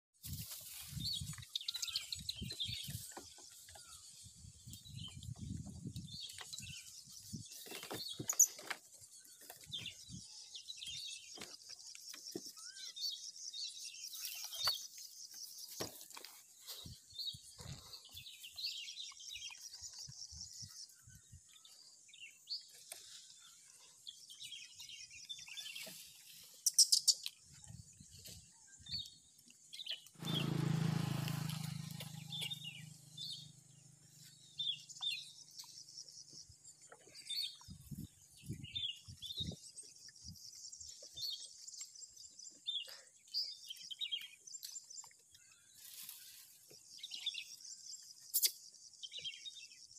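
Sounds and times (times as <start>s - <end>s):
small birds chirping: 0.2s - 49.9s.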